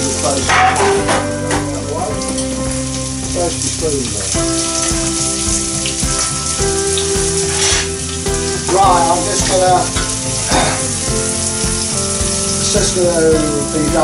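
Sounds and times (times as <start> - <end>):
vegetables sizzling in oil: 2.2 - 13.8.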